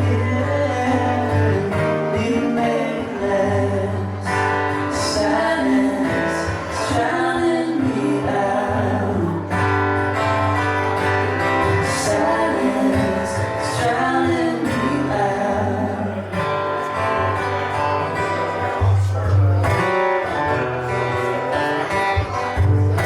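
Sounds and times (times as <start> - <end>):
live guitar melody: 0.0 - 23.0
steady bass: 0.0 - 23.0.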